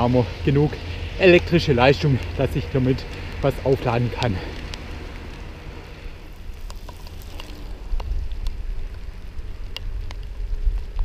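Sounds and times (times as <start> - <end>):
low steady rumble: 0.0 - 11.0
rain on a wet road: 0.0 - 11.0.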